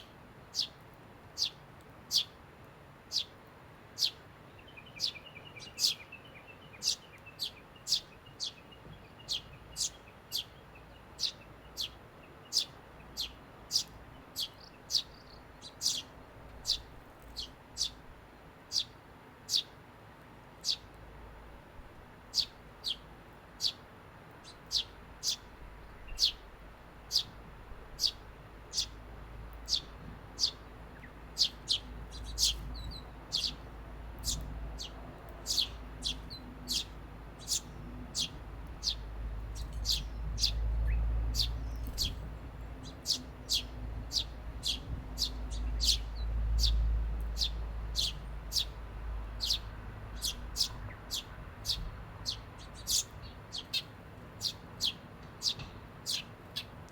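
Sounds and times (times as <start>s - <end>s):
sparrows chirping: 0.0s - 2.4s, 3.1s - 19.8s, 20.6s - 56.9s.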